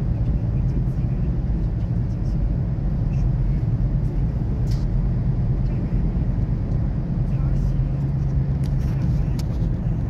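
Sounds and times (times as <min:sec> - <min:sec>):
car rumbling through tunnel: 0:00.0 - 0:10.0.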